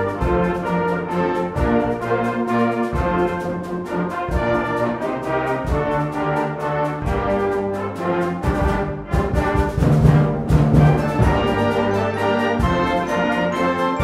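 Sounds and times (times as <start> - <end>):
brass band playing chords: 0.0 - 14.0.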